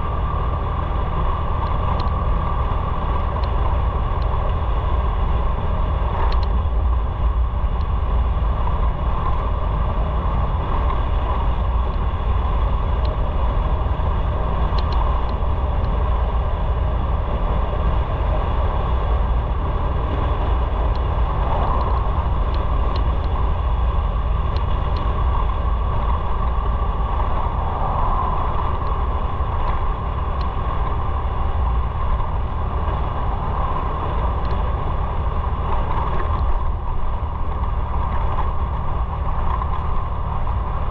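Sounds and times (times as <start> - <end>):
motorcycle engine rumble: 0.0 - 40.9
road noise: 0.0 - 40.9.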